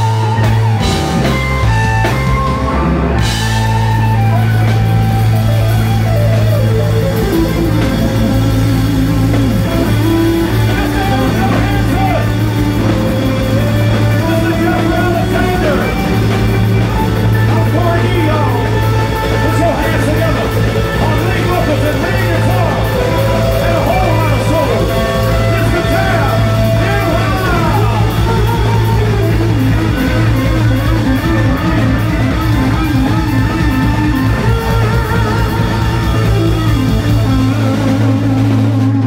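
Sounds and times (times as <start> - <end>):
drum kit: 0.0 - 39.0
electric bass line: 0.0 - 39.0
electric guitar lead: 0.0 - 39.0.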